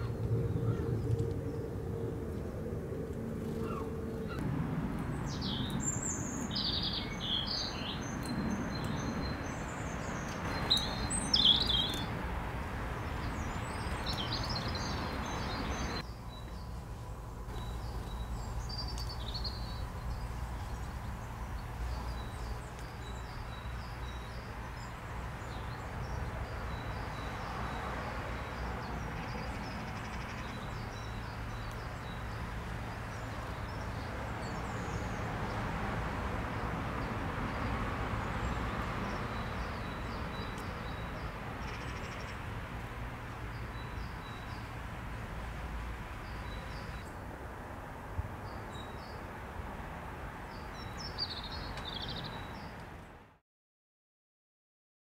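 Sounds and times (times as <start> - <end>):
songbirds singing and chirping: 3.5 - 35.7, 36.5 - 45.1, 46.1 - 47.2, 50.5 - 53.2.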